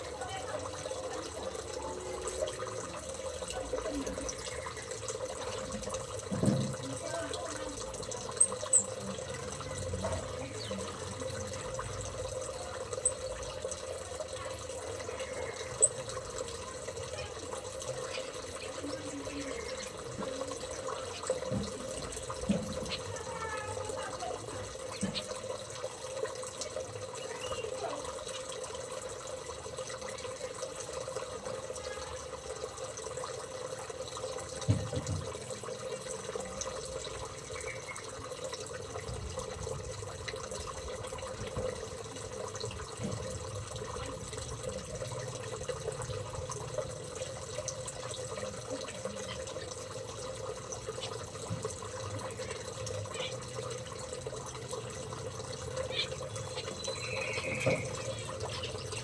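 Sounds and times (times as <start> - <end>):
running water trickling: 0.0 - 59.0.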